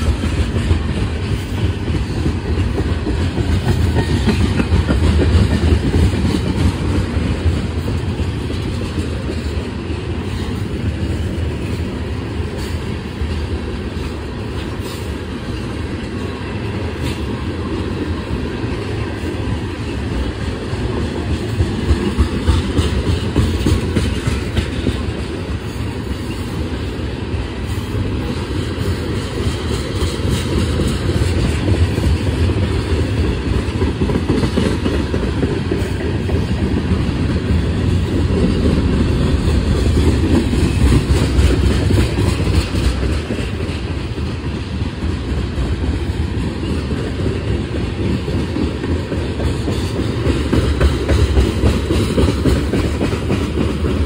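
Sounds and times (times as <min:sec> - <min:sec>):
wheels clacking over rail joints: 0:00.0 - 0:27.0, 0:27.6 - 0:54.0
freight train rumbling past: 0:00.0 - 0:54.0.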